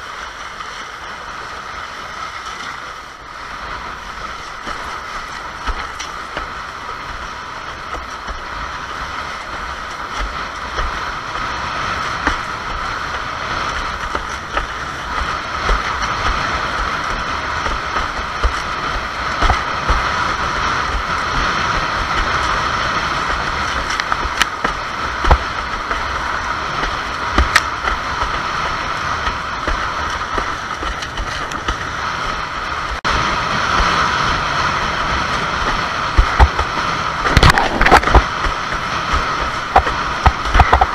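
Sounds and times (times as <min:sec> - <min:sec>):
board slapping waves: 0:00.0 - 0:40.9
wind rushing over microphone: 0:00.0 - 0:40.9.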